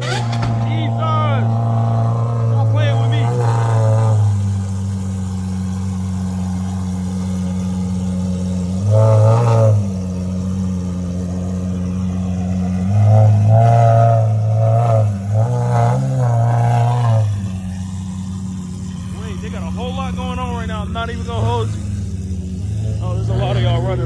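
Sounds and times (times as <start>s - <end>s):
car engine revving: 0.0s - 24.0s
low engine hum: 0.0s - 24.0s.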